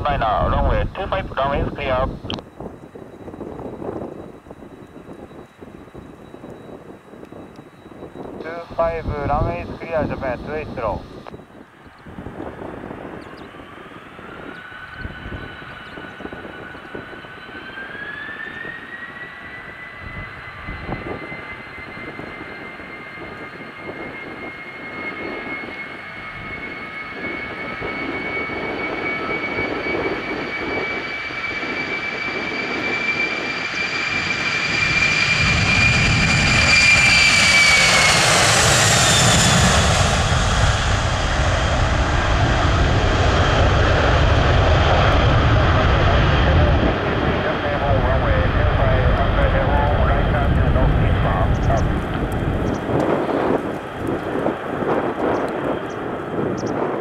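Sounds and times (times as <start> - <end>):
jet engine deep rumble: 0.0 - 57.0
jet engines high whine: 0.0 - 57.0.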